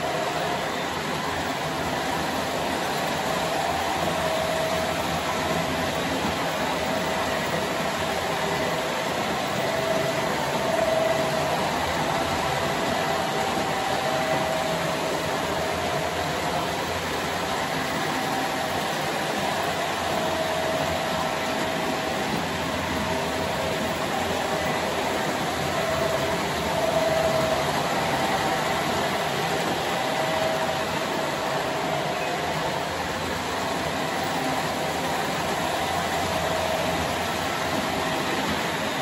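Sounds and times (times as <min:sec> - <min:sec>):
faint wavering hum: 0:00.0 - 0:39.0
model train wheels rolling: 0:00.0 - 0:39.0.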